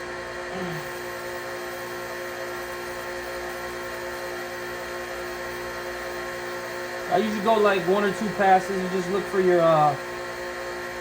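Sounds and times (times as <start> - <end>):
machine hum with whine: 0.0 - 11.0.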